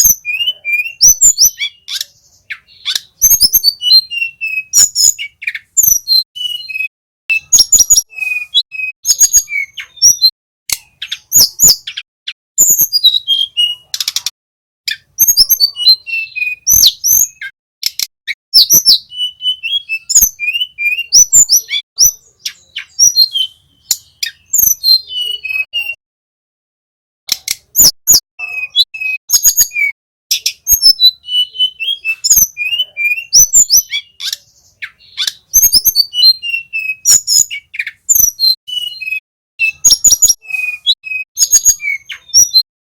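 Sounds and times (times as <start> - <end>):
bird singing chirps and trills: 0.0 - 26.0, 27.3 - 42.7.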